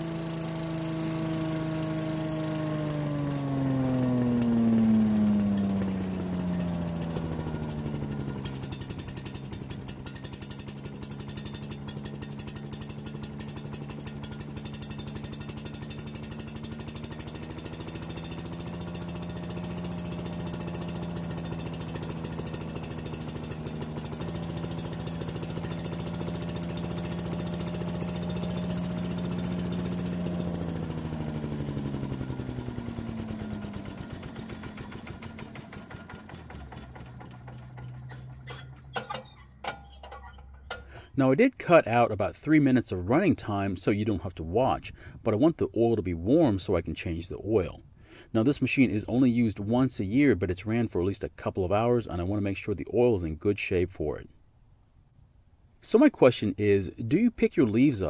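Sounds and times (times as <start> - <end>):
small engine running: 0.0 - 49.6.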